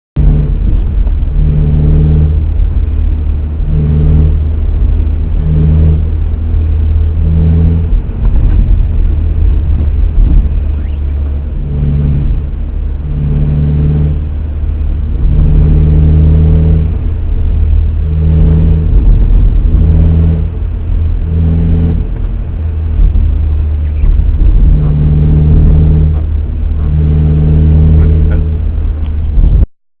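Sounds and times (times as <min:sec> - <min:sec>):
car engine droning: 0:00.2 - 0:29.7
higher humming tone: 0:00.2 - 0:29.7.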